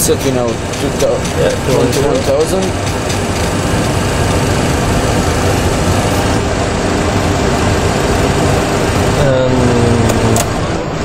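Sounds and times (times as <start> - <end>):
simulated engine and airflow noise: 0.0 - 11.0.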